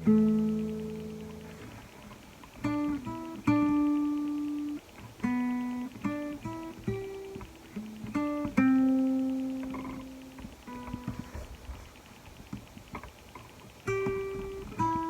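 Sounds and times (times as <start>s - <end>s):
acoustic guitar plucked melody: 0.0s - 15.0s.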